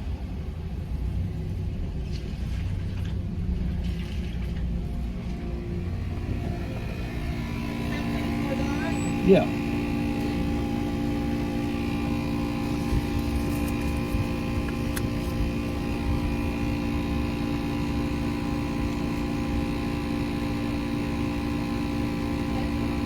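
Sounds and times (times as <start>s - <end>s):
machine hum: 3.6s - 23.0s.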